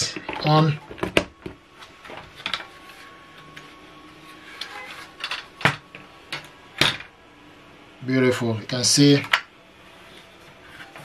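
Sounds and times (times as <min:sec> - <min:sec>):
faint fan hum: 0:00.0 - 0:11.0.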